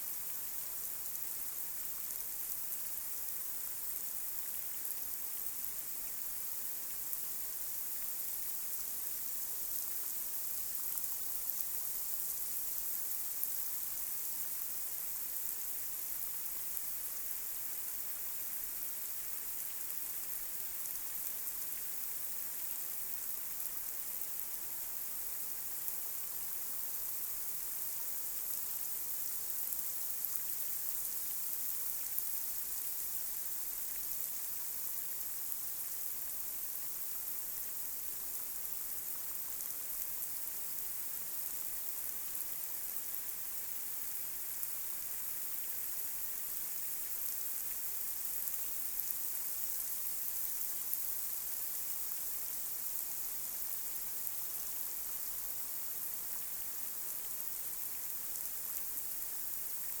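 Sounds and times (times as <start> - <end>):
light rain on a street: 0.0 - 60.0.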